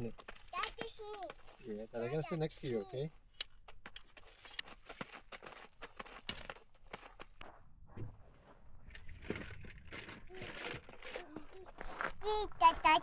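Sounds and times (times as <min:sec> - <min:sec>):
footsteps crunching on gravel: 0:00.0 - 0:02.9, 0:03.5 - 0:13.0.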